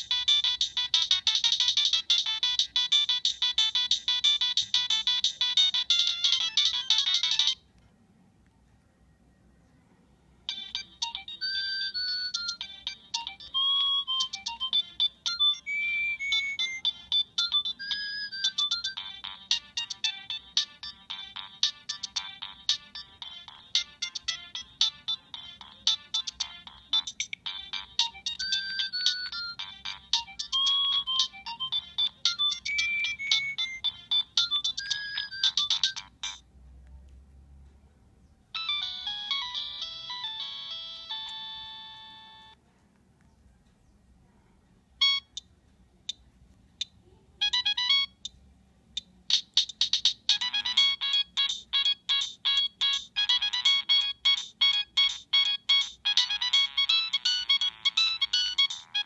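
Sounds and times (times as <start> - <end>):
phone ringtone beeping melody: 0.0 - 7.7, 10.5 - 36.5, 38.5 - 42.6, 45.0 - 45.5, 47.4 - 48.4, 49.0 - 59.0.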